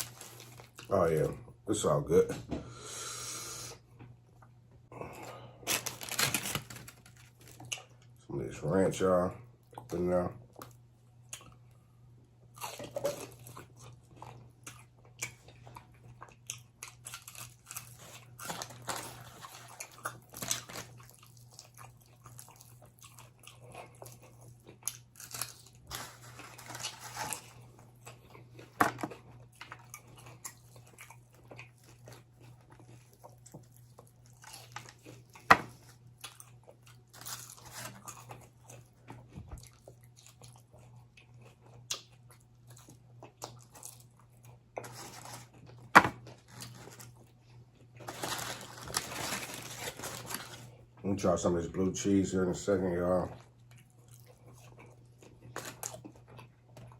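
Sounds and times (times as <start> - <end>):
chewing crispy chicken: 5.6 - 8.2, 12.4 - 56.9.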